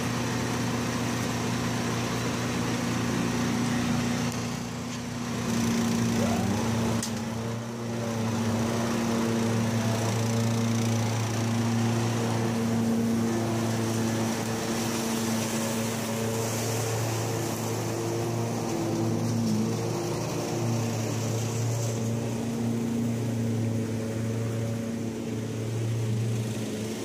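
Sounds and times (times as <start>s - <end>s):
small engines running: 0.0s - 27.0s.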